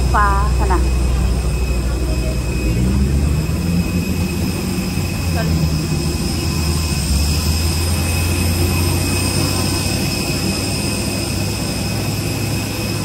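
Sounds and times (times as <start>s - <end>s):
jet airliner engine drone: 0.0s - 13.0s.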